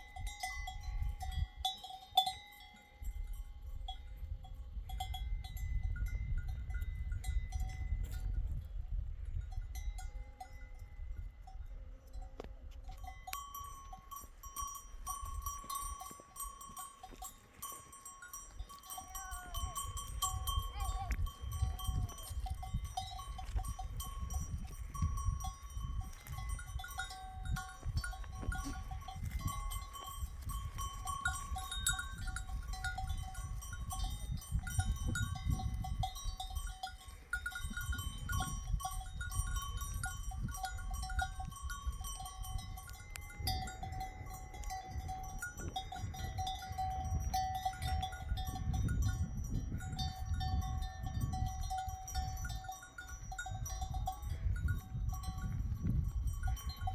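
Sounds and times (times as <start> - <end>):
wind rumble on microphone: 0.0 - 2.3, 3.0 - 56.9
animal bells ringing: 0.0 - 56.9.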